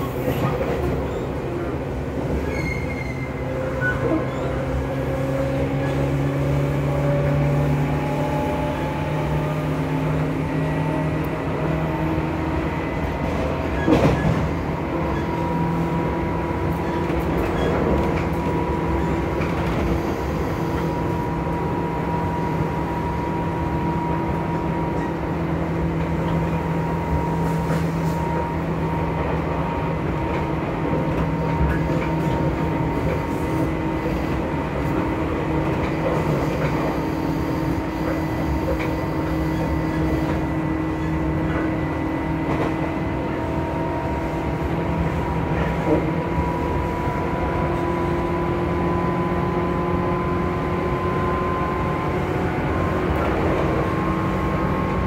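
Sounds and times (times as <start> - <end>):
train rail rumble: 0.0 - 55.0.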